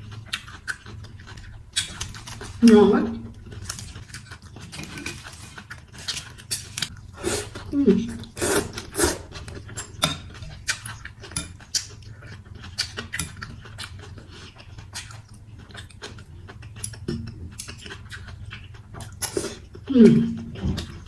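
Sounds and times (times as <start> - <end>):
wet chewing and slurping: 0.0 - 21.0.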